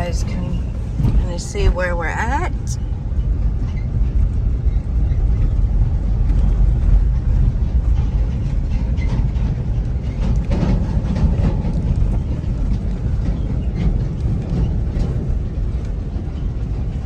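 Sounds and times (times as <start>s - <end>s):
car engine rumble: 0.0s - 17.0s
tyres on road: 0.0s - 17.0s.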